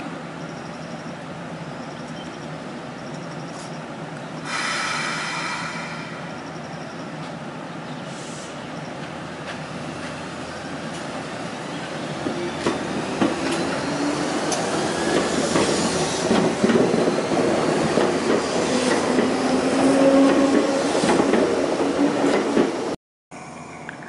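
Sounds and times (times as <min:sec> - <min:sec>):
train passing: 0:00.0 - 0:23.8.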